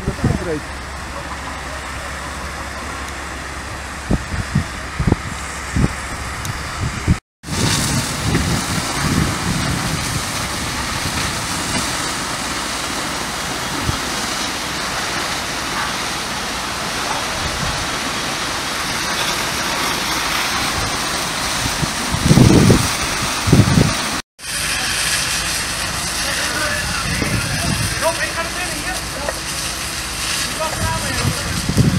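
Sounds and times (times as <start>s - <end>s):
fire hoses spraying water: 0.0s - 31.9s.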